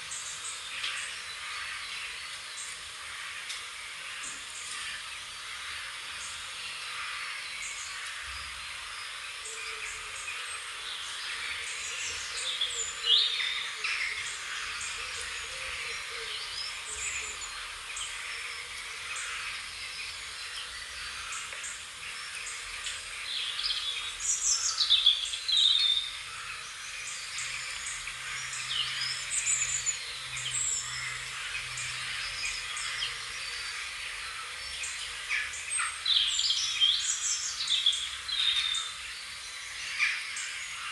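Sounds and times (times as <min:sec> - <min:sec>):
birds singing and chirping: 0:00.0 - 0:40.9.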